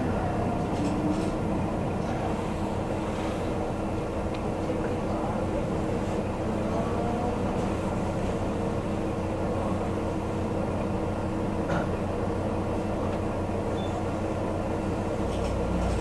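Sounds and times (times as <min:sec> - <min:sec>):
railcar engine hum and rumble: 0:00.0 - 0:16.0.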